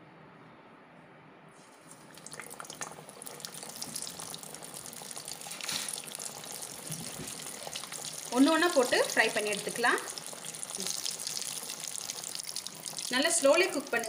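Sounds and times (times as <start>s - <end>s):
cutlets sizzling in hot oil: 1.9s - 14.0s.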